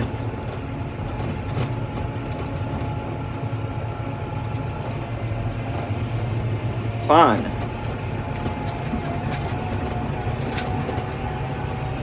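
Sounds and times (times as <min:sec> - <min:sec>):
light rattles and clicks: 0:00.0 - 0:06.8, 0:07.5 - 0:11.9
tractor engine droning: 0:00.0 - 0:12.0.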